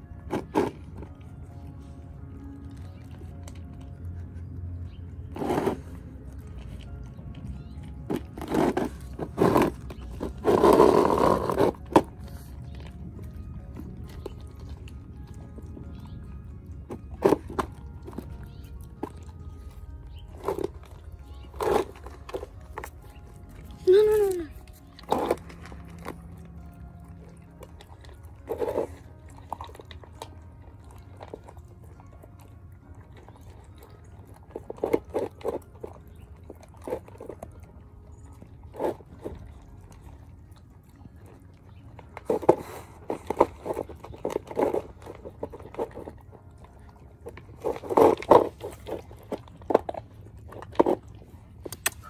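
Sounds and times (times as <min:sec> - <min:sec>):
puppies crunching kibble: 0:00.0 - 0:52.0.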